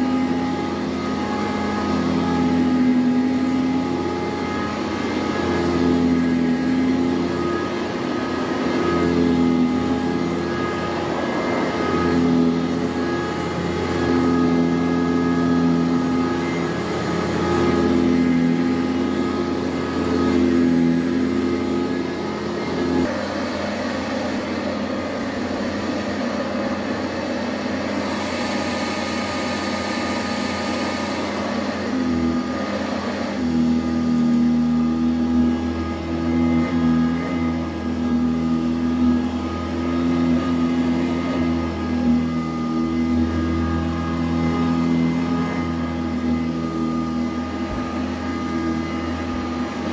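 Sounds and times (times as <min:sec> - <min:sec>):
upright vacuum cleaner on carpet: 0:00.0 - 0:49.9.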